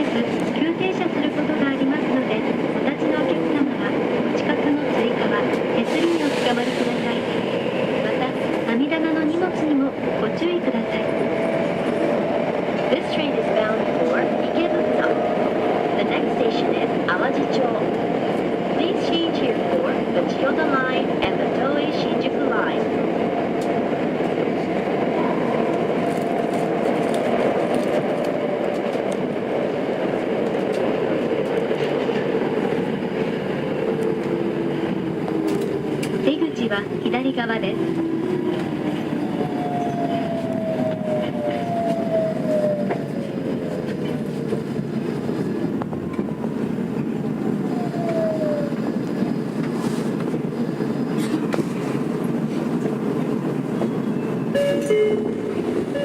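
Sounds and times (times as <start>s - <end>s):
subway wheels rumbling on rail: 0.0s - 56.0s.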